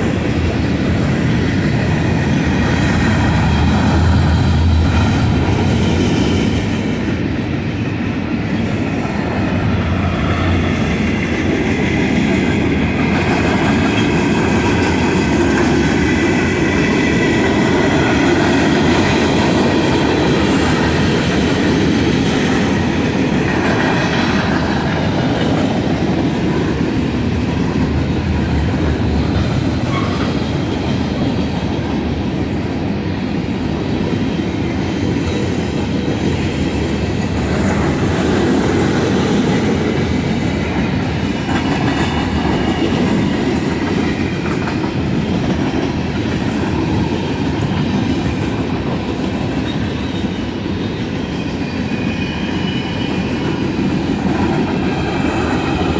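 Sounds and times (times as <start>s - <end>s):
freight train rumbling past: 0.0s - 55.9s
steel wheels rattling on rails: 0.0s - 55.9s.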